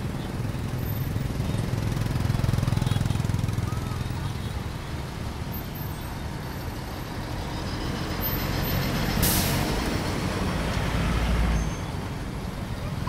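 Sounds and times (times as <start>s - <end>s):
heavy vehicle rumble: 0.0s - 13.0s
scooters and cars in traffic: 0.0s - 13.0s.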